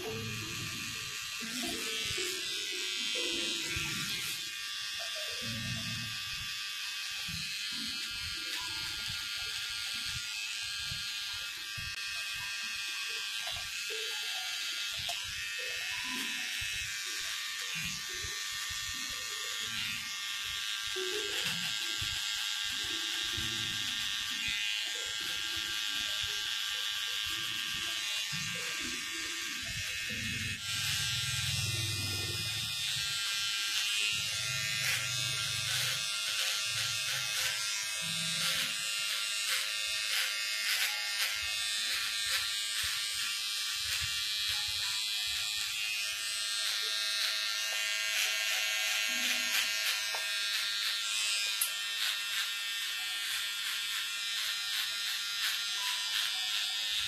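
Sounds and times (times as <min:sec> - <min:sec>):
electric hair clipper buzzing: 0:00.0 - 0:57.0.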